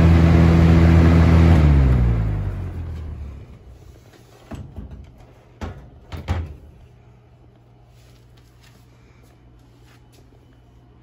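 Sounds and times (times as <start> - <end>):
box fan humming: 0.0 - 11.0.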